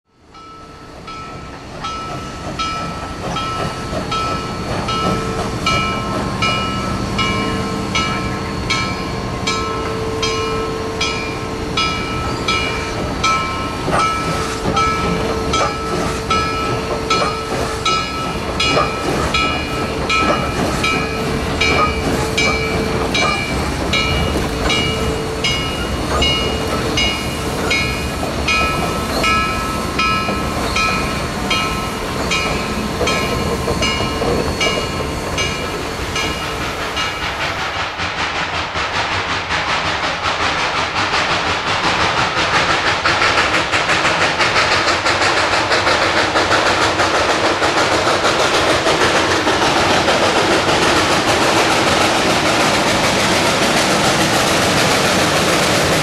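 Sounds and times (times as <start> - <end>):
steam locomotive chuffing: 0.2 - 56.0.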